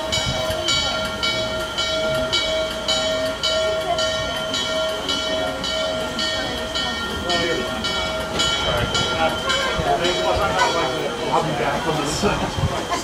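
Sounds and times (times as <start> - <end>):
low rumble of locomotive: 0.0 - 13.0
steam locomotive bell ringing: 0.0 - 13.0.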